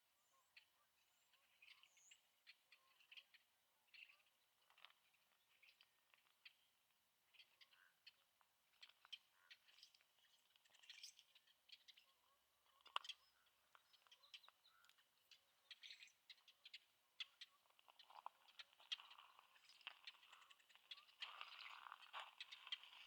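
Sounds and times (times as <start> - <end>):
soft ticks and crackles: 1.6 - 23.0.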